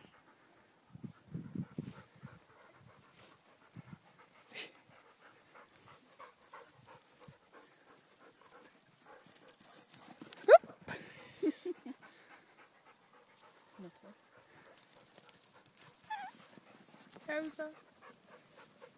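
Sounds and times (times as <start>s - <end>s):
dog panting: 0.0s - 18.9s.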